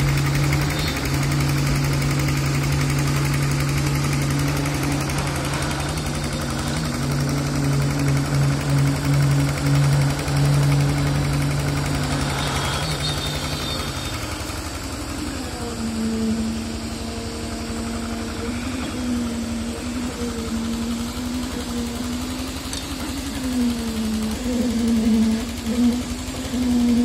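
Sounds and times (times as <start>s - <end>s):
concrete vibrator humming: 0.0s - 27.0s.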